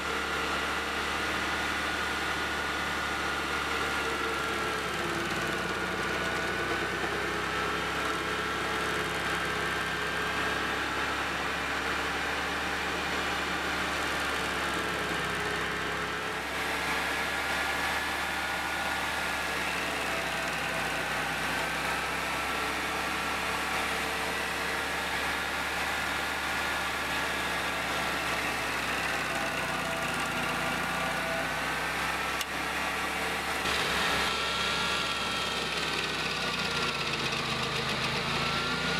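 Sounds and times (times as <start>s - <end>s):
stump grinder engine running: 0.0s - 38.9s
cutting wheel grinding wood: 0.1s - 38.9s.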